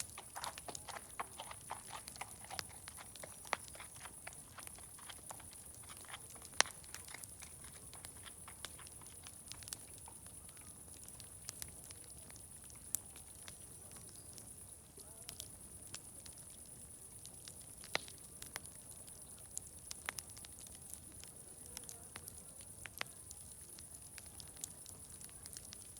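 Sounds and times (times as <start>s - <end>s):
fire crackling and popping: 0.0s - 25.9s
steady high-pitched hiss: 0.0s - 25.9s.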